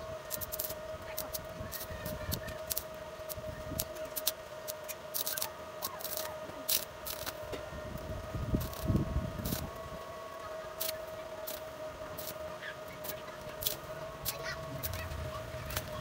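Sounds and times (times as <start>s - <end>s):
steady high hum: 0.0s - 16.0s
welding arc crackling: 0.0s - 16.0s.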